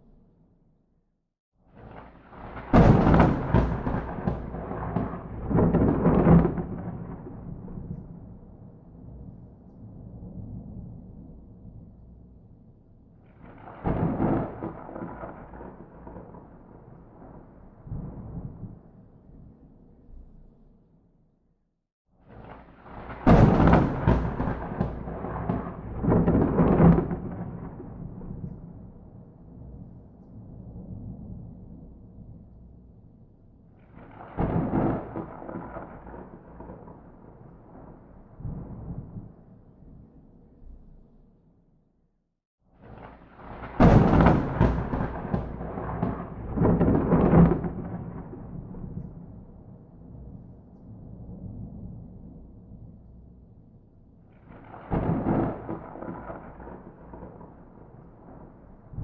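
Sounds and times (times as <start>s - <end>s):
thunder crack and rumble: 1.7s - 20.3s, 22.2s - 40.2s, 42.8s - 53.5s, 54.3s - 59.0s.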